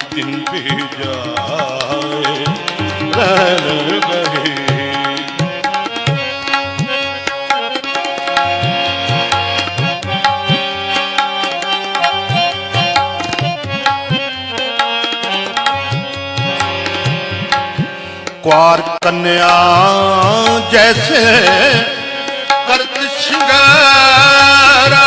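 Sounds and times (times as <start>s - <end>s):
tabla playing: 0.0s - 25.0s.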